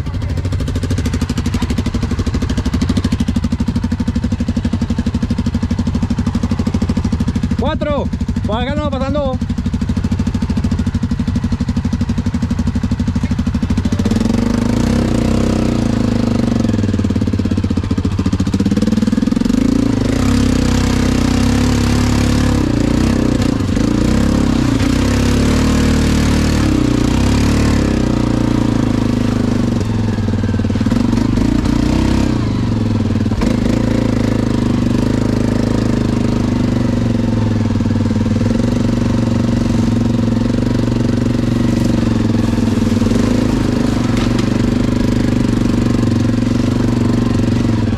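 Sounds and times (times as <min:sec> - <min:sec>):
atv engine running: 0:00.0 - 0:47.9
tyres churning through mud: 0:09.5 - 0:47.9.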